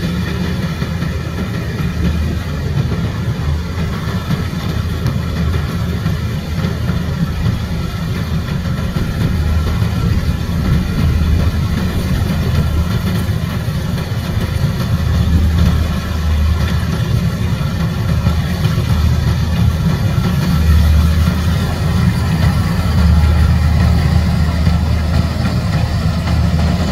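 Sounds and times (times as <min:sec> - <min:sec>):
combine harvester engine drone: 0:00.0 - 0:26.9.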